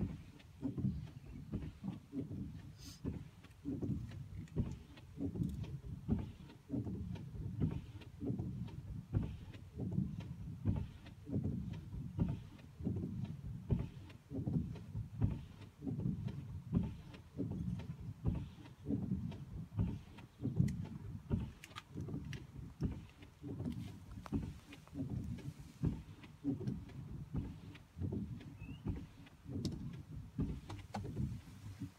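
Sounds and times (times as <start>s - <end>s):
low knocking and hum: 0.0s - 31.9s
windscreen wipers swishing: 0.0s - 31.9s.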